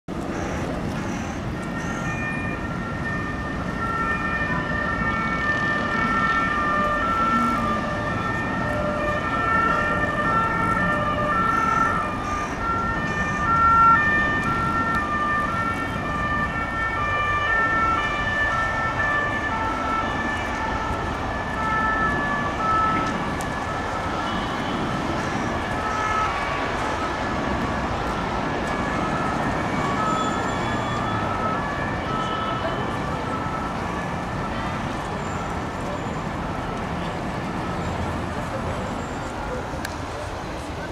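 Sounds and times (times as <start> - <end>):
city traffic noise: 0.0 - 40.9
overlapping two-tone sirens: 0.2 - 40.9.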